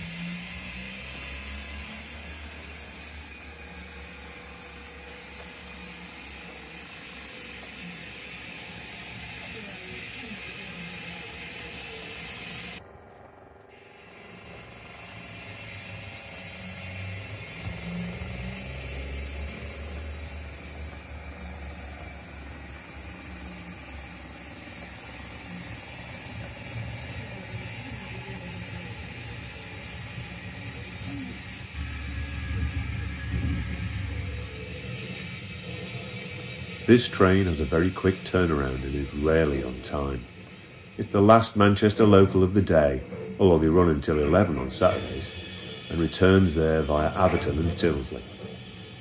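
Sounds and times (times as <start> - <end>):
steady hiss: 0.0 - 12.8, 13.8 - 49.0
model train rumbling: 0.0 - 49.0.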